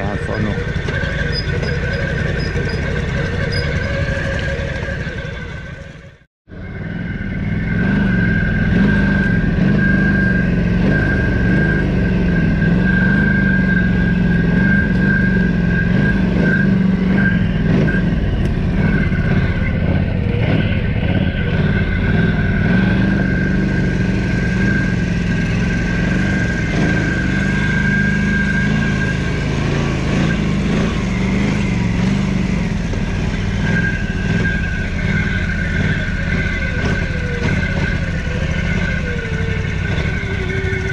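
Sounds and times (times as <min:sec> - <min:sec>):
high-pitched whine: 0:00.0 - 0:40.9
quad bike engine revving: 0:00.0 - 0:40.9.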